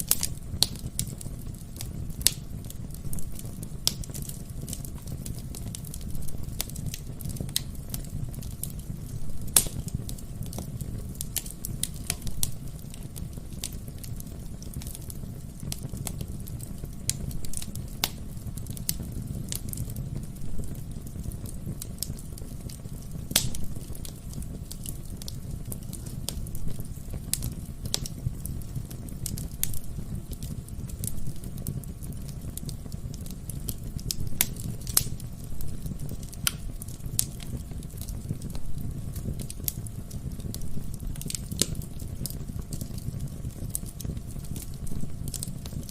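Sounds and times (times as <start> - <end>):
logs crackling and popping: 0.0 - 45.9
wood fire burning: 0.0 - 45.9.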